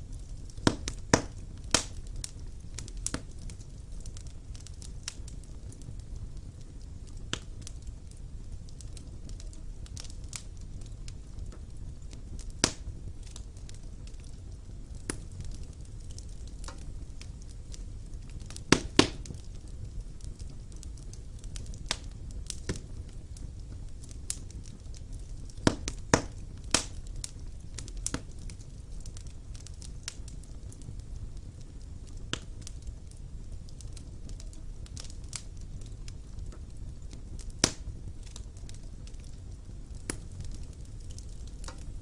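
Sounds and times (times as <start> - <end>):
fire crackles and pops: 0.0 - 42.0
low rumble of flames: 0.0 - 42.0.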